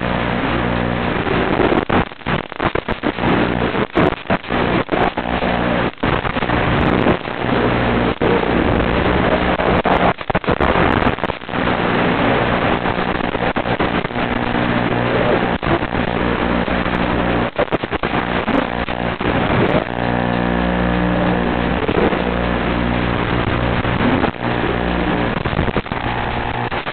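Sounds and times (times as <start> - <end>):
low buzz: 0.0 - 26.9
static hiss: 0.0 - 26.9.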